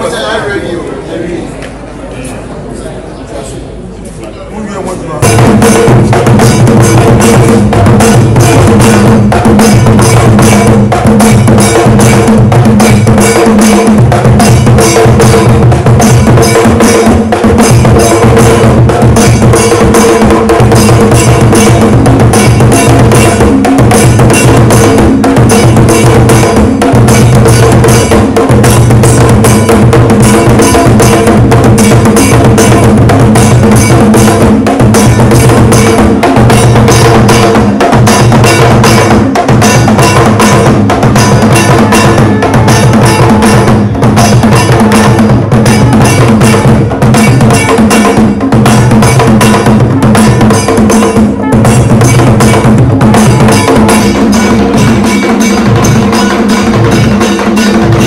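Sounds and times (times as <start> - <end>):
drum and percussion beat: 5.2 - 58.0.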